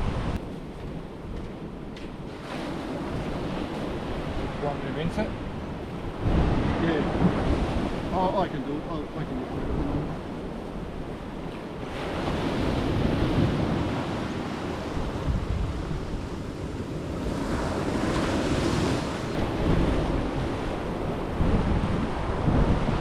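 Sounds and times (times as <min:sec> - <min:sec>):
ocean surf washing up beach: 0:00.0 - 0:23.0
wind buffeting microphone: 0:00.0 - 0:23.0.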